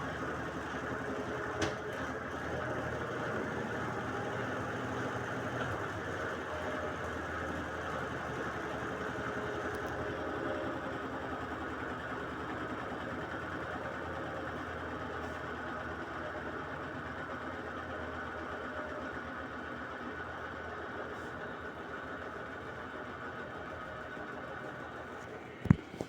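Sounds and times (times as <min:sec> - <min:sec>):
washing machine hum and whir: 0:00.0 - 0:26.0.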